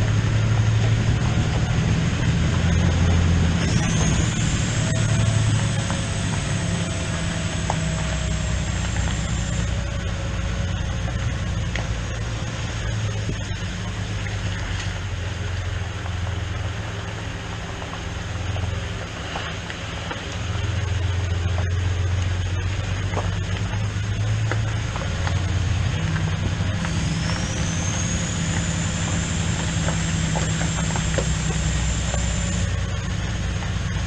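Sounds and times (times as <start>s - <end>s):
tractor engine droning: 0.0s - 34.0s.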